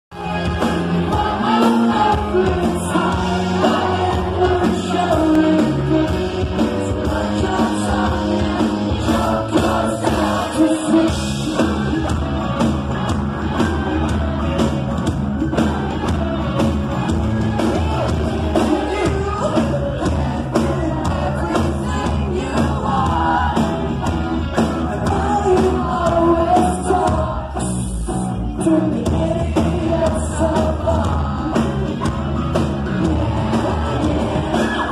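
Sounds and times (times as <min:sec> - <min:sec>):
electric guitar: 0:00.1 - 0:34.9
lead singer singing: 0:00.1 - 0:34.9
live rock band: 0:00.1 - 0:34.9.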